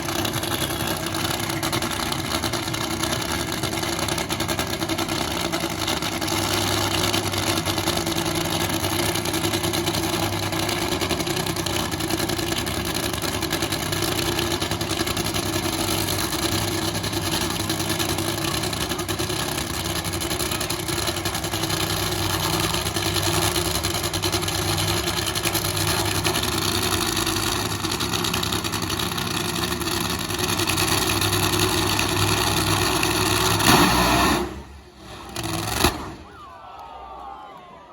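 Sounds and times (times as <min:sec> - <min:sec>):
race car engine running: 0:00.0 - 0:36.2.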